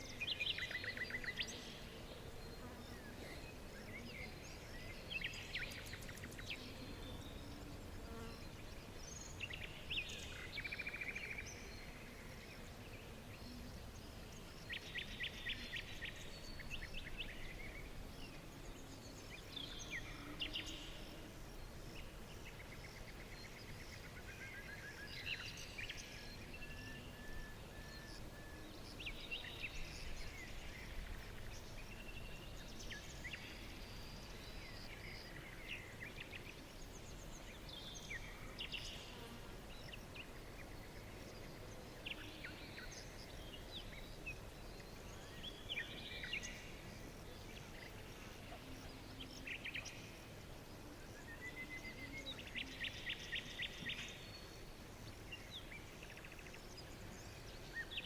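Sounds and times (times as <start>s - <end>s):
low background hiss: 0.0s - 58.0s
songbirds chirping and trilling: 0.0s - 58.0s.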